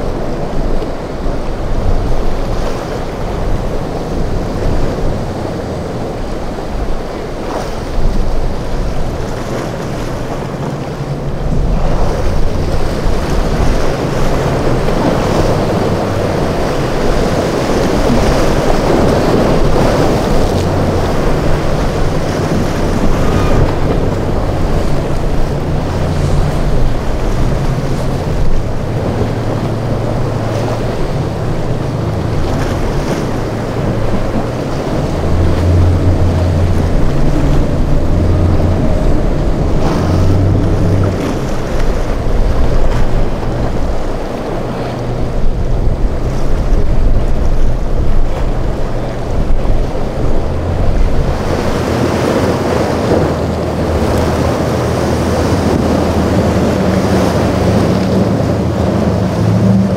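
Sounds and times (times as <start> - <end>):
boat engines running: 0.0 - 59.9
waves and surf: 0.0 - 59.9
wind buffeting microphone: 0.0 - 59.9.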